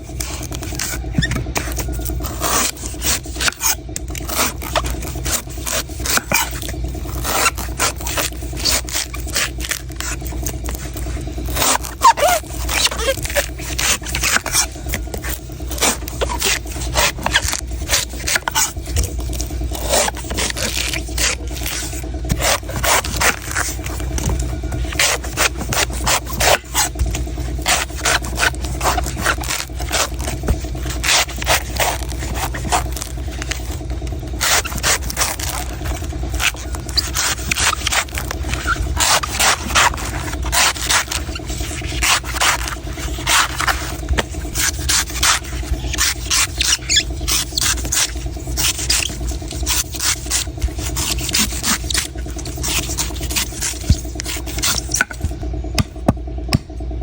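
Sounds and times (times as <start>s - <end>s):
knife scraping coconut: 0.0s - 56.7s
steady low hum: 0.0s - 57.0s.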